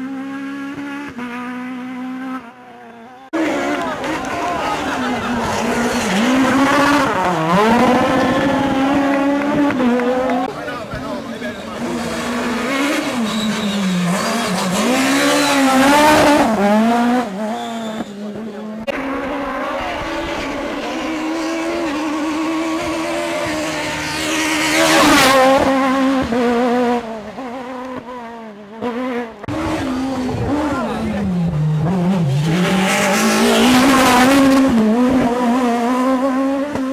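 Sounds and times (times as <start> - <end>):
rally car engine revving: 0.0 - 36.9.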